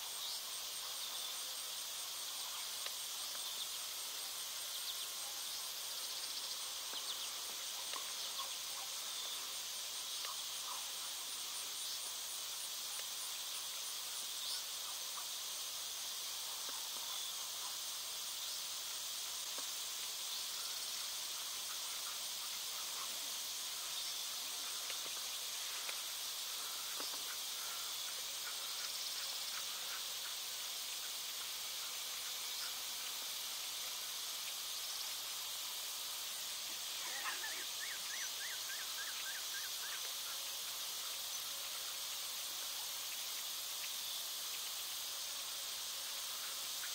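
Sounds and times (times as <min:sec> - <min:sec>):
chorus of field insects: 0:00.0 - 0:46.9
faint chirps: 0:00.0 - 0:46.9
fast pulsing insect trill: 0:00.0 - 0:46.9.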